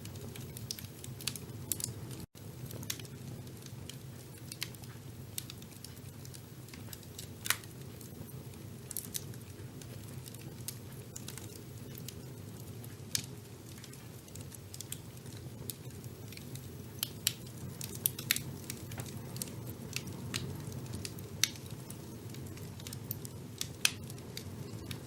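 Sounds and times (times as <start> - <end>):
fire crackling and popping: 0.0 - 25.0
fire rumbling: 0.0 - 25.0.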